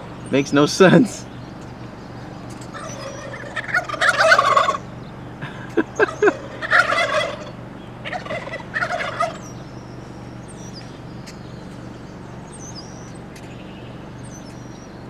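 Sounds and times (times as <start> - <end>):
turkeys gobbling: 0.0 - 14.8.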